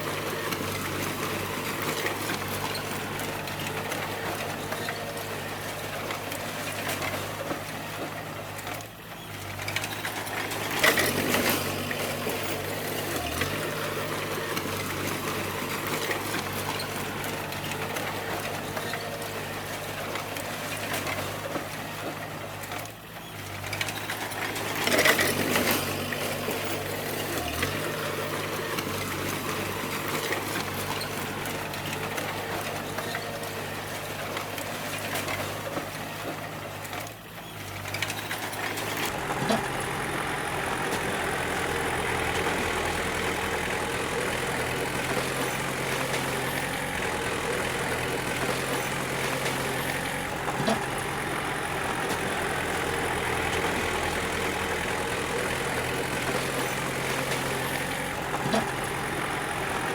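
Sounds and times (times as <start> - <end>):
bulldozer diesel engine: 0.0 - 59.9.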